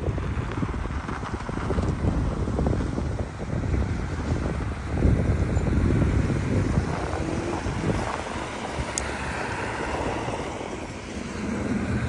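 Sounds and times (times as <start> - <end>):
road traffic rumbling past: 0.0 - 12.0
wind buffeting microphone: 0.0 - 12.0.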